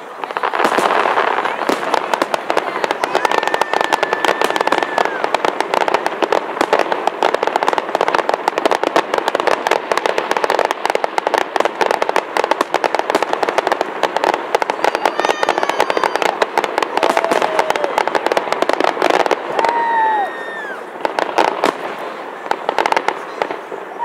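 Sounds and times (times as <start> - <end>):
fireworks cracking and crackling: 0.0 - 24.0.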